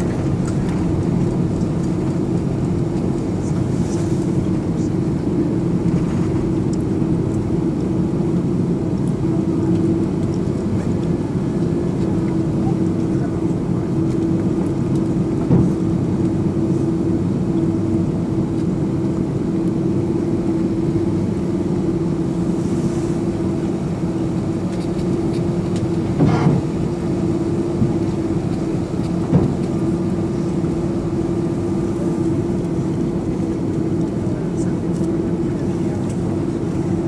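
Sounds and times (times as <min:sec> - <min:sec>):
airplane engines idling in cabin: 0:00.0 - 0:37.0.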